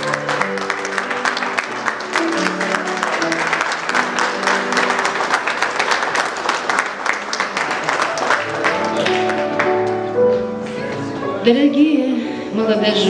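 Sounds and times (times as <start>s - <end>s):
people applauding: 0.0s - 11.3s
background music: 0.0s - 13.0s.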